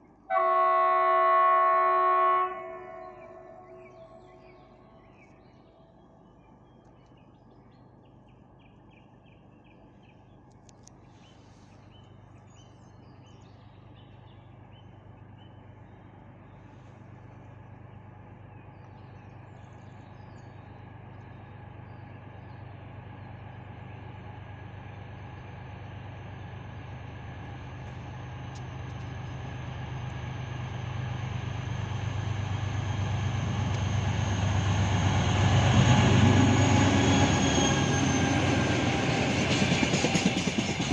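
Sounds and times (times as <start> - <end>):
diesel locomotive engine drone: 0.0 - 40.9.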